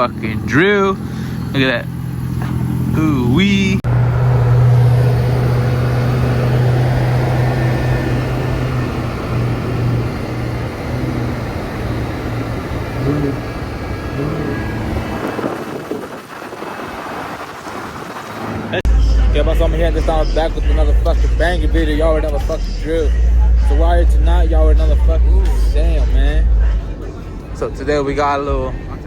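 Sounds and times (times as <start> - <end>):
car engine and exhaust rumbling: 0.0 - 29.0.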